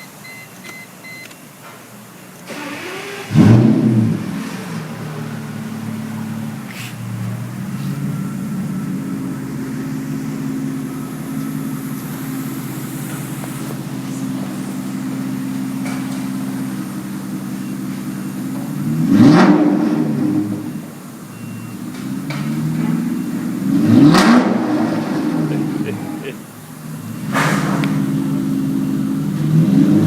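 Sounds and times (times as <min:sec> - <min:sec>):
car engine idling and revving: 0:01.9 - 0:30.0.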